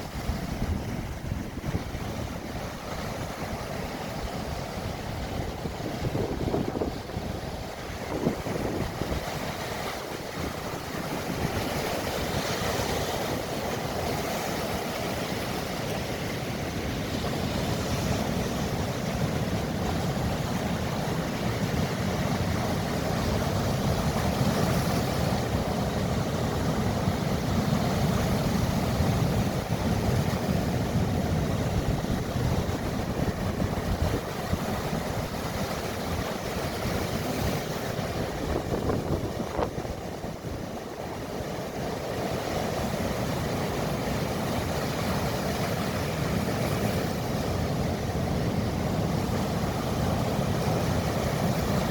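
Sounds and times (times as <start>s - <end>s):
sea waves washing: 0.0s - 51.9s
wind noise on microphone: 0.0s - 51.9s.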